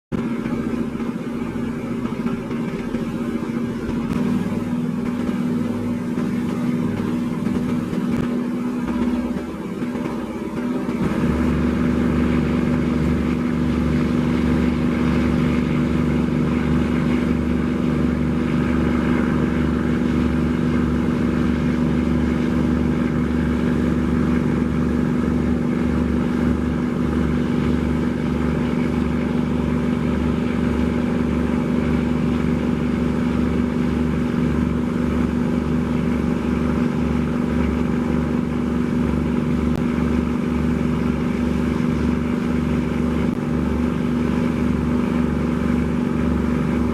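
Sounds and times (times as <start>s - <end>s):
boat engine droning: 0.1s - 46.9s
water rushing: 1.0s - 46.9s.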